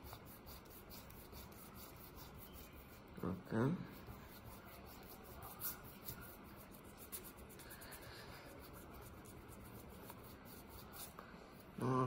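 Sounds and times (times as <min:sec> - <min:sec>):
fingertip rubbing on paper: 0:00.0 - 0:11.2.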